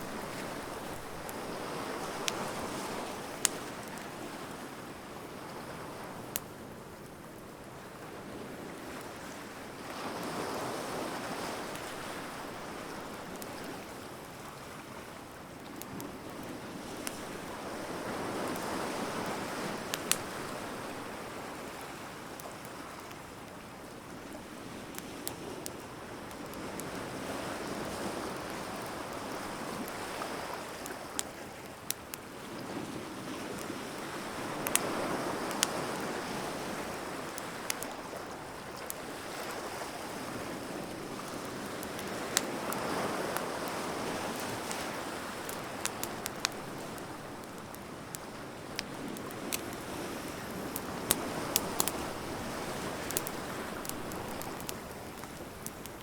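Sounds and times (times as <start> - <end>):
wood fire crackling and popping: 0.0 - 4.6, 11.3 - 14.4, 15.4 - 32.4, 33.0 - 56.0.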